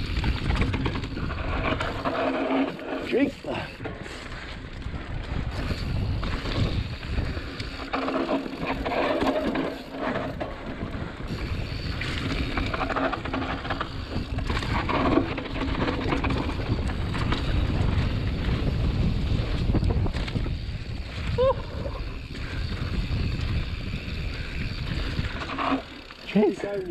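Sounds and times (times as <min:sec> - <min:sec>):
wind buffeting microphone: 0:00.0 - 0:02.3, 0:03.3 - 0:26.9
bike rattling over bumps: 0:00.0 - 0:26.9
knobbly tyres rolling on dirt: 0:00.0 - 0:26.9.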